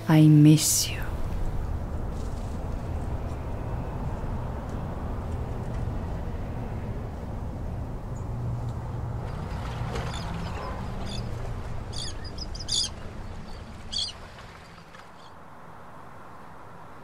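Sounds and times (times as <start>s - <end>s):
low rumble of ambience: 0.0s - 17.0s.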